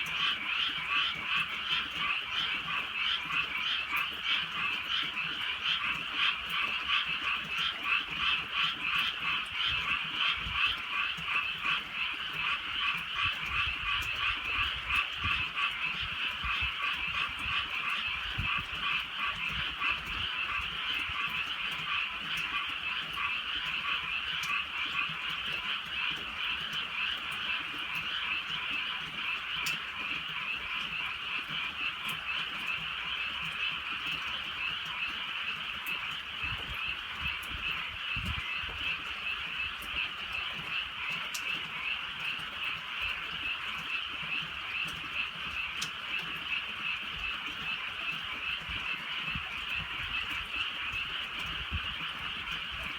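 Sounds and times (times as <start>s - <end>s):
frogs croaking: 0.0s - 52.9s.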